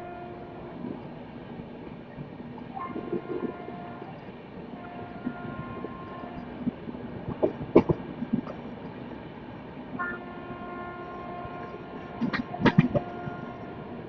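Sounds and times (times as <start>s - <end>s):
train running on rails: 0.0s - 14.0s.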